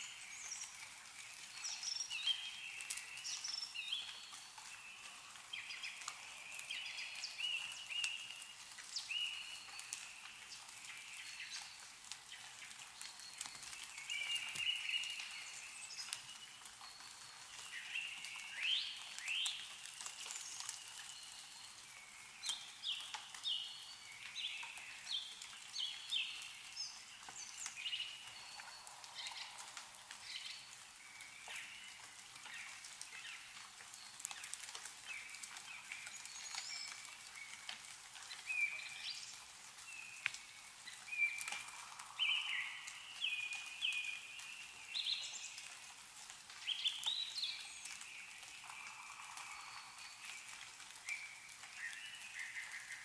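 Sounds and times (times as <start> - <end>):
meltwater drips falling: 0.0 - 53.0.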